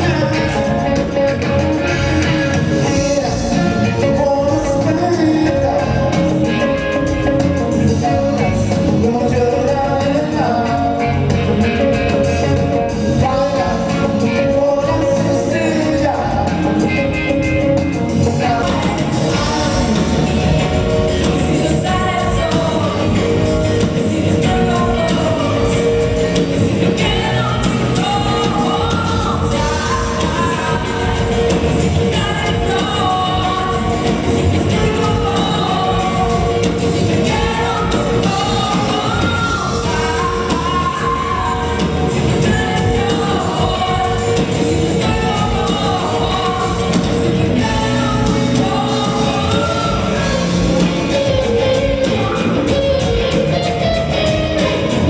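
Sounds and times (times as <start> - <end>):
live rock band playing: 0.0 - 55.0
woman singing: 0.0 - 55.0.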